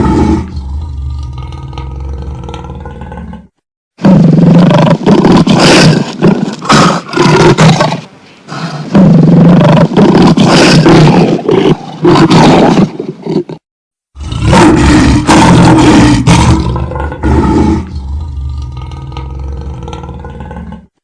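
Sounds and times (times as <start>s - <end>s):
lion growling and roaring: 0.0s - 13.6s, 14.2s - 21.0s.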